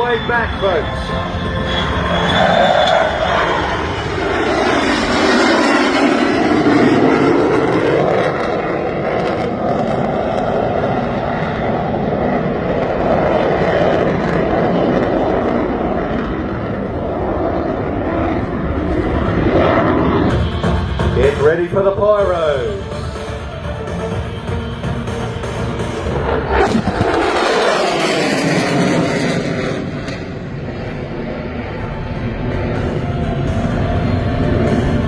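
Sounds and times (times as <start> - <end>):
airplane engine running loud: 0.0 - 35.0.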